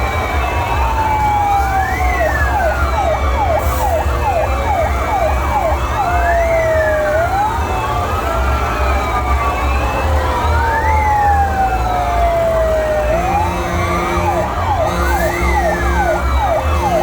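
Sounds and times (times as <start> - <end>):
fire engine sirens wailing: 0.0 - 17.0.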